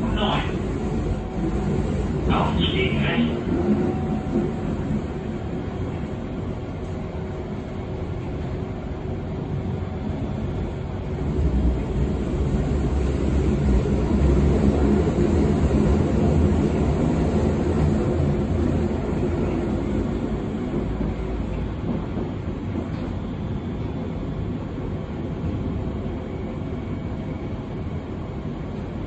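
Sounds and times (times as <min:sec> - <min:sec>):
train rumbling and rattling: 0:00.0 - 0:29.0.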